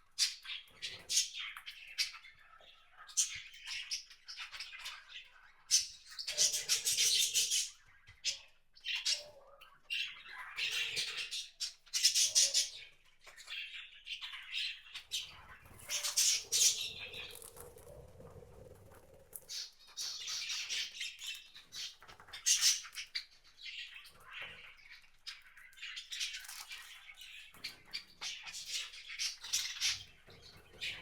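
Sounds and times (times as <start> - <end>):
soft bird calls: 0.0 - 31.0
birds chattering: 0.2 - 31.0.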